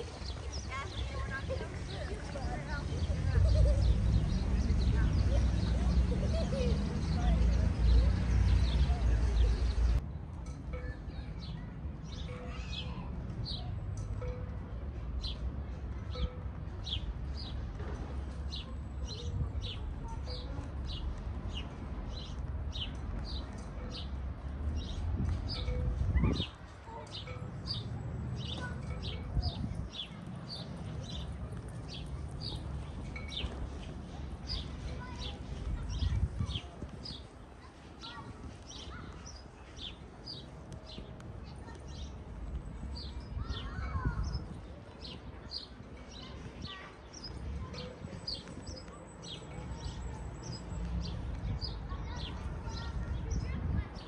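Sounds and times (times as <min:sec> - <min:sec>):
small birds chirping: 0:00.0 - 0:10.0, 0:18.5 - 0:54.0.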